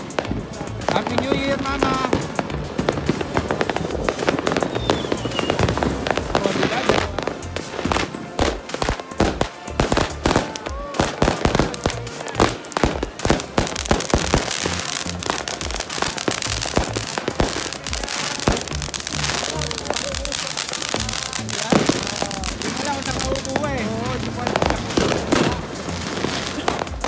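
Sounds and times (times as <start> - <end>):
firework bangs: 0.0 - 27.0
fireworks crackling: 0.0 - 27.0.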